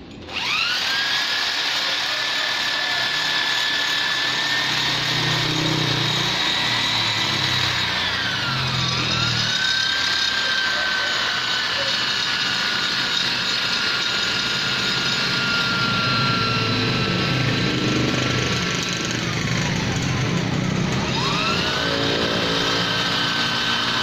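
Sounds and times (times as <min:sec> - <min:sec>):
rotary grinder whining: 0:00.0 - 0:24.0.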